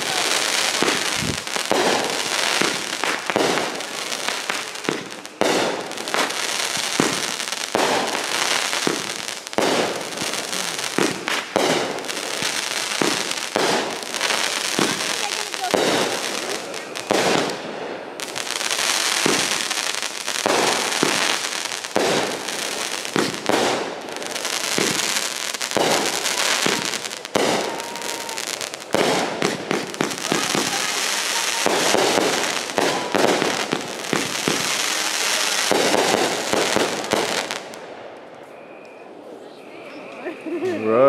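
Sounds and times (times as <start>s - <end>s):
fireworks barrage crackling and banging: 0.0s - 39.2s.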